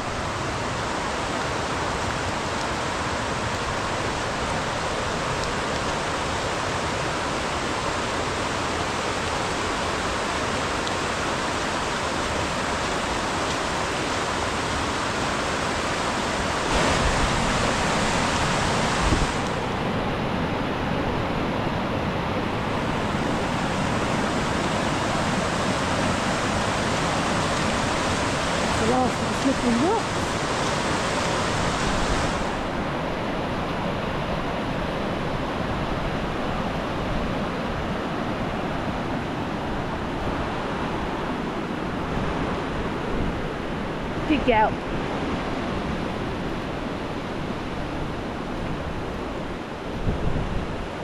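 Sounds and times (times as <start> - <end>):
fast-flowing river water rushing: 0.0 - 51.0.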